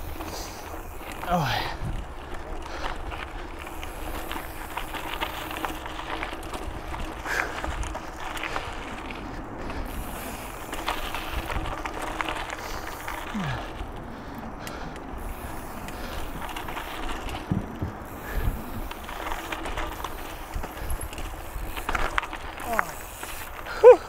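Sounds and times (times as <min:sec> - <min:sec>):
freewheel hub ratcheting: 0:00.0 - 0:23.9
bike tyres rolling over dirt: 0:00.0 - 0:24.0.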